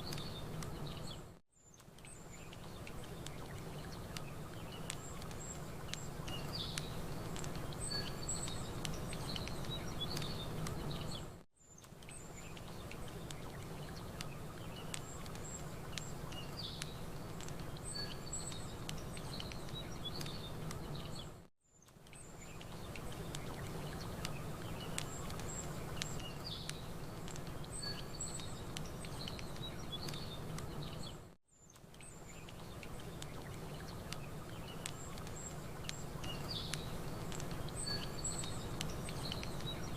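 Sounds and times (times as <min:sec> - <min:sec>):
campfire crackling: 0:00.0 - 0:39.9
small birds chirping: 0:00.0 - 0:39.9.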